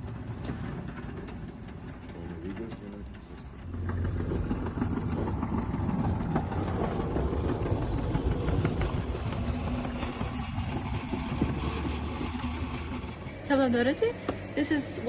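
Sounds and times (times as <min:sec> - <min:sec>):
pallet jack wheels rattling: 0:00.0 - 0:13.3.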